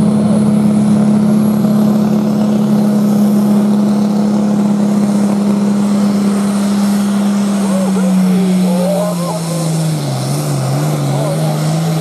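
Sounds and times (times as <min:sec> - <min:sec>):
diesel tractor engine under load: 0:00.0 - 0:12.0
turbo whine: 0:00.0 - 0:12.0.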